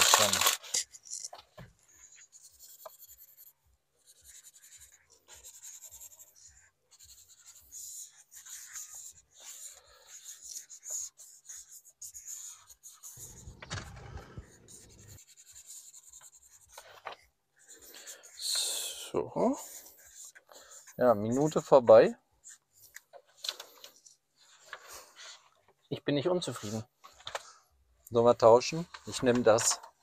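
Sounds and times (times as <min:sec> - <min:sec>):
markers scratching on paper: 0:00.0 - 0:25.6.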